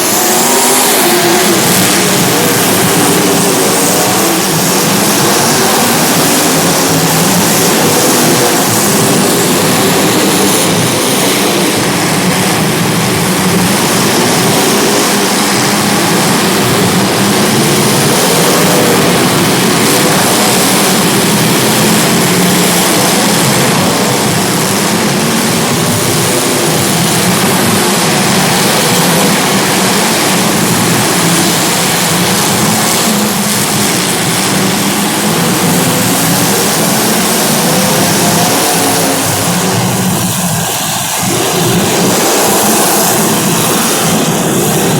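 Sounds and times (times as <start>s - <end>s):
engine and track noise: 0.0s - 44.9s
small racing engines revving: 0.0s - 44.9s.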